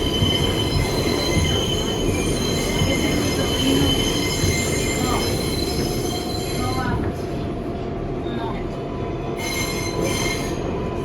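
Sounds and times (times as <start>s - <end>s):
wheels squealing on rails: 0.0s - 7.2s, 9.3s - 11.0s
train rumbling in tunnel: 0.0s - 11.0s.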